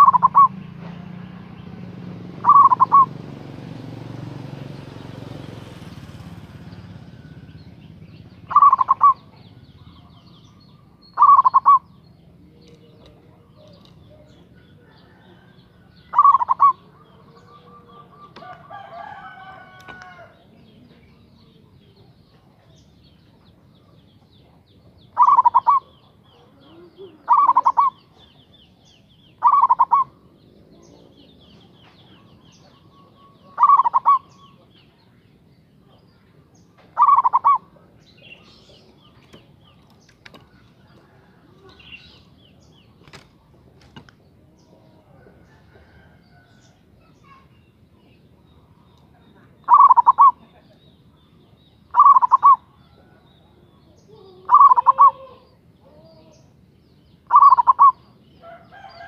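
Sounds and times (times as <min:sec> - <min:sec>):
dove cooing: 0:00.0 - 0:00.9, 0:01.6 - 0:22.1, 0:23.8 - 0:34.8, 0:36.8 - 0:47.4, 0:49.4 - 0:50.6, 0:51.9 - 0:56.5, 0:57.2 - 0:59.0
small birds chirping: 0:00.0 - 0:59.0.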